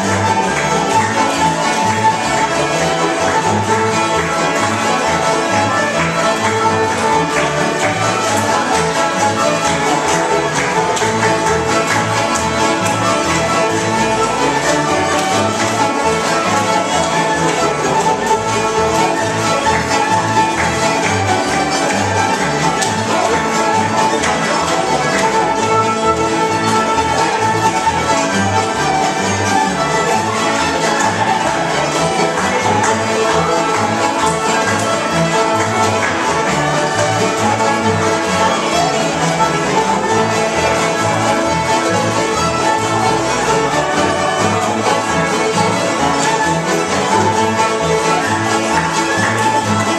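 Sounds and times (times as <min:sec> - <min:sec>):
fiddle melody: 0:00.0 - 0:49.9
mandolin: 0:00.0 - 0:49.9
plucked upright bass: 0:00.0 - 0:49.9
strummed acoustic guitars: 0:00.0 - 0:49.9.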